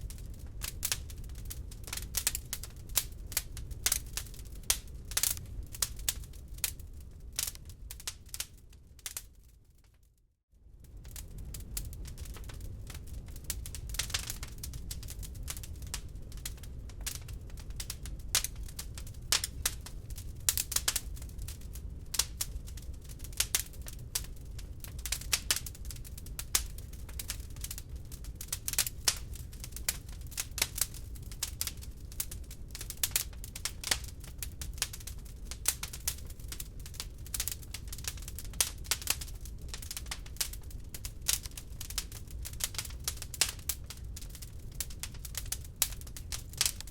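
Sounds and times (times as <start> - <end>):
log fire crackling and popping: 0.0 - 9.9, 10.8 - 46.9.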